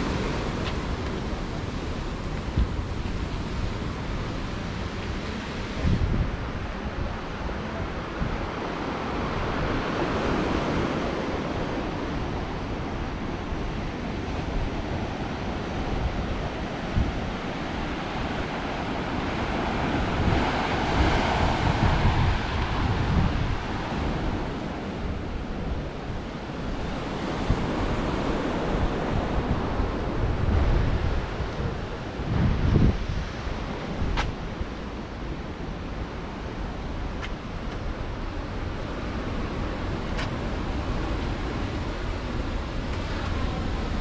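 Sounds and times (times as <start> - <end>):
surf breaking on rocky shore: 0.0 - 44.0
wind rumbling on microphone: 0.0 - 44.0.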